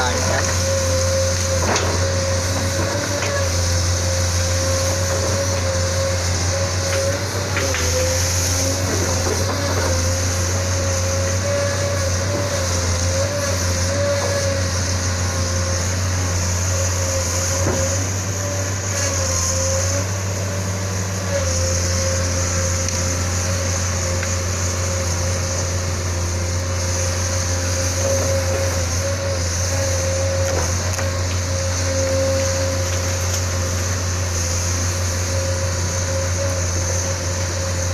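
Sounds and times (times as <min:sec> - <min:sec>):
excavator diesel engine drone: 0:00.0 - 0:37.9.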